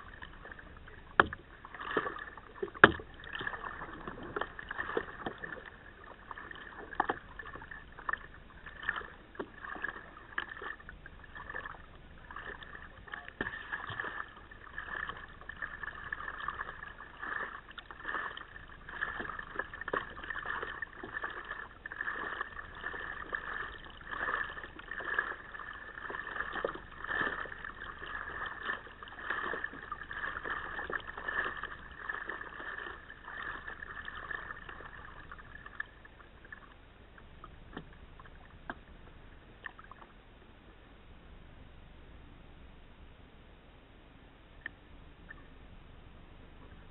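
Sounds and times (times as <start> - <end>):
paddle splashing water: 0.0 - 40.2.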